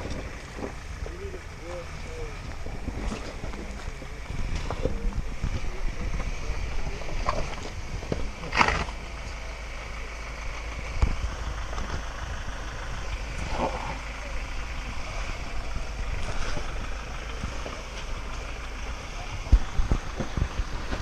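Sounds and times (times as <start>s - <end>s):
truck engine at low revs: 0.0s - 21.0s.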